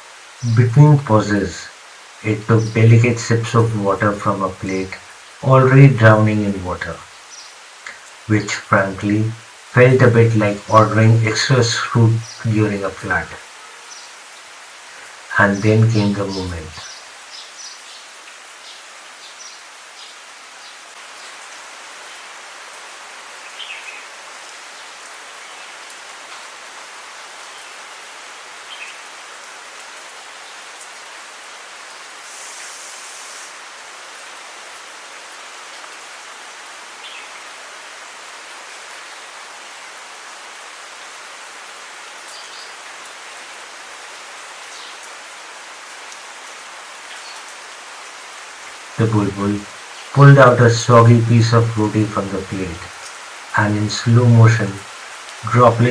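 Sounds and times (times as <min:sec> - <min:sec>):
heavy rain hissing: 0:00.0 - 0:55.9.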